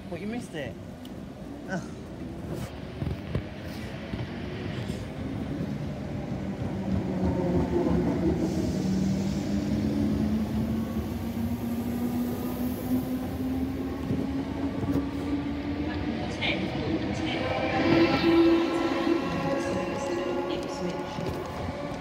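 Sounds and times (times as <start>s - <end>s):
electric train passing: 3.5s - 22.0s.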